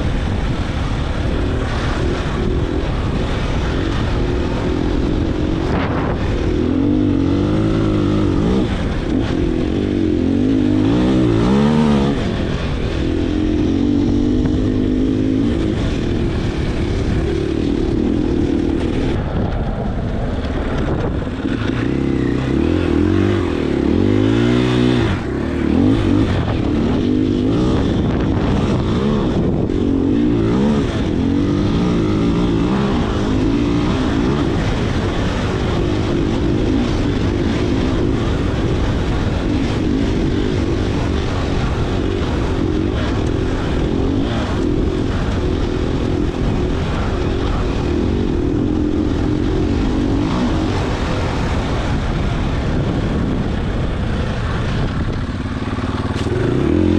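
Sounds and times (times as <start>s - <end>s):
dirt bike engine revving: 0.0s - 19.5s, 20.4s - 53.3s, 54.2s - 56.9s.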